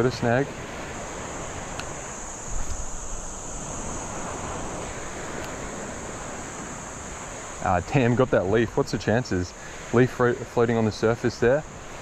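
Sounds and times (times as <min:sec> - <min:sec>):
high-pitched hiss: 0:00.0 - 0:12.0
water washing at shore: 0:00.0 - 0:12.0
wind buffeting microphone: 0:00.0 - 0:12.0.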